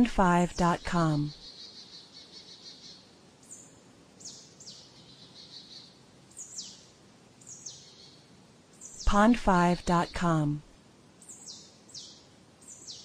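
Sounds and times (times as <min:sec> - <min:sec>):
faint background hiss: 0:00.0 - 0:13.0
songbirds chirping: 0:00.0 - 0:13.0.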